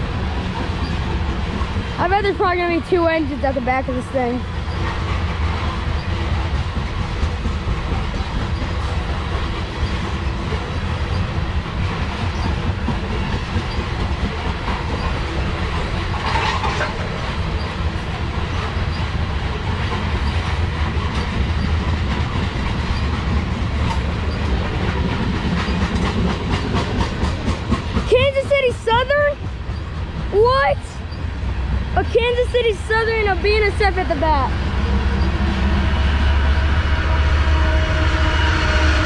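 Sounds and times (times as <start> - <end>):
wheels clickety-clack: 0.0 - 35.9
train wheels rumbling on rails: 0.0 - 39.0.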